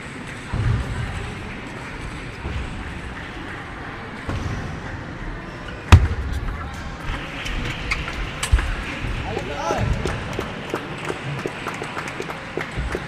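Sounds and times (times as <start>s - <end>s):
table tennis hall background: 0.0s - 13.0s.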